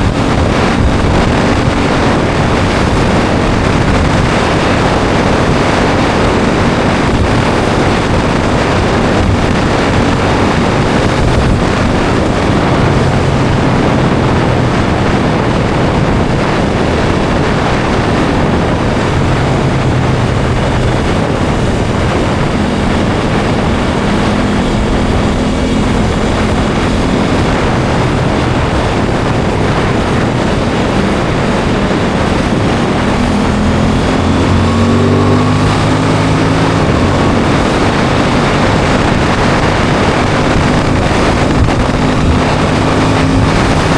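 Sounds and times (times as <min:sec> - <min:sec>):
motorcycle engine running: 0:00.0 - 0:43.9
wind rush over microphone: 0:00.0 - 0:43.9.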